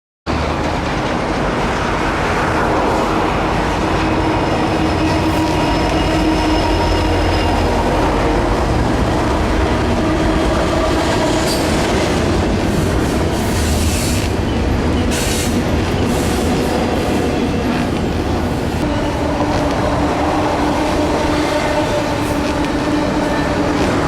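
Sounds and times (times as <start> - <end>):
freight train wheels rumbling: 0.3 - 24.0.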